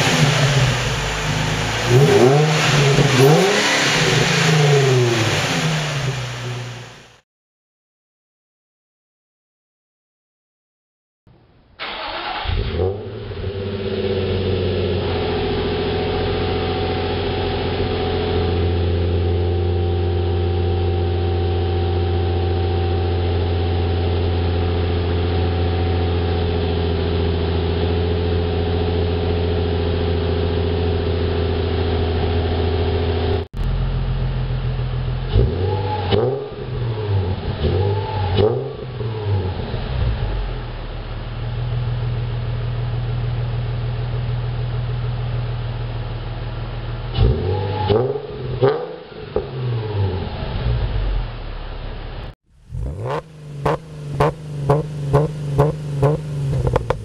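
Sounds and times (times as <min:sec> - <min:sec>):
car engine idling and revving: 0:00.0 - 0:07.2, 0:11.4 - 0:57.0.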